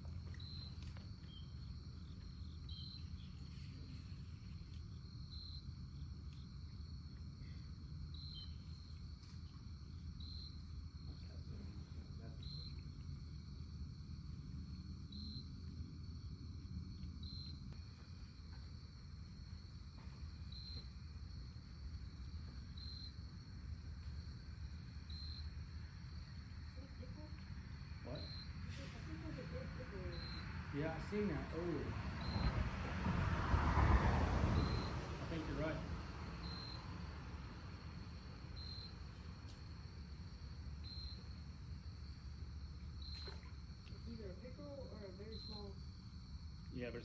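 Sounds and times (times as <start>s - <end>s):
crickets trilling: 0.0s - 47.0s
loud insect chirps: 0.0s - 47.0s
low outdoor rumble: 0.0s - 47.0s.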